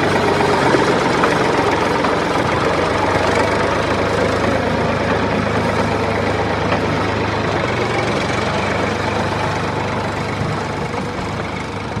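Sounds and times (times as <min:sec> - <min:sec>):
toy tractor engine drone: 0:00.0 - 0:12.0.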